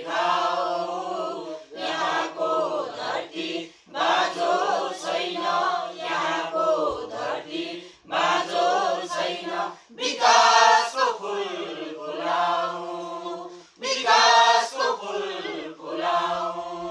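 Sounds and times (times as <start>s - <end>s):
mixed choir singing: 0.0s - 16.9s.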